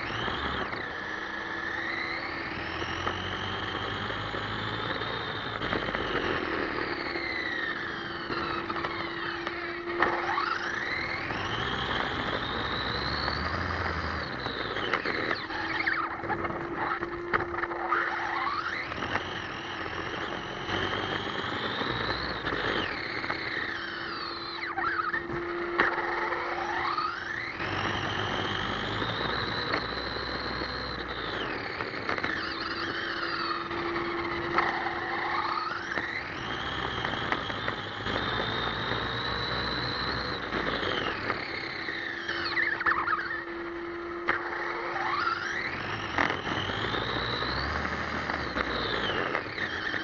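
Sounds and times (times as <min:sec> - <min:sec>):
toy truck electric motor whining: 0:00.0 - 0:50.0.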